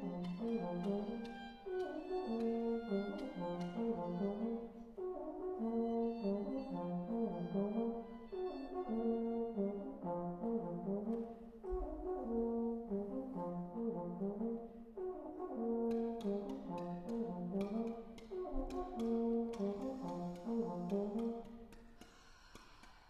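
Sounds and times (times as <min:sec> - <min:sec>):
brass ensemble holding notes: 0:00.0 - 0:21.6.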